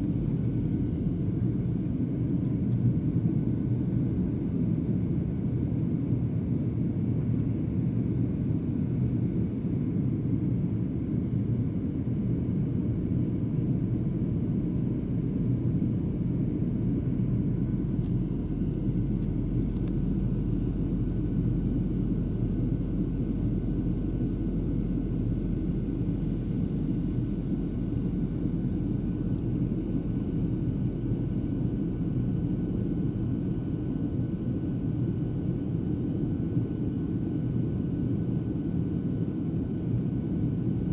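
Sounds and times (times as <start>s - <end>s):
jet engine and airflow rumble: 0.0s - 40.9s.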